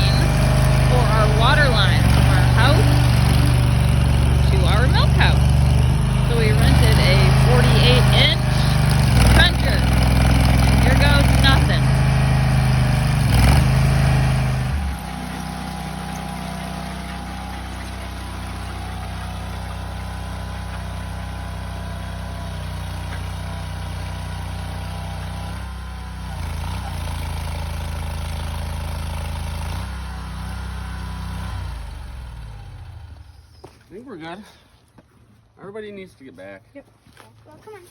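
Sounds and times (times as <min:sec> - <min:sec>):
trencher engine running: 0:00.0 - 0:33.5.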